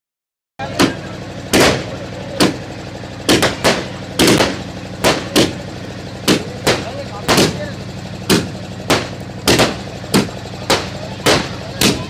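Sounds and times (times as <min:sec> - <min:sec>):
steady low hum: 0:00.6 - 0:12.0
firecrackers bursting: 0:00.7 - 0:12.0.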